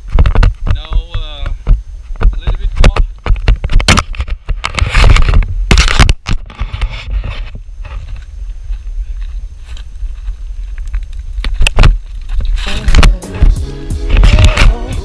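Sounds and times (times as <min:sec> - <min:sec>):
footsteps scrambling on rocks: 0:00.0 - 0:13.1.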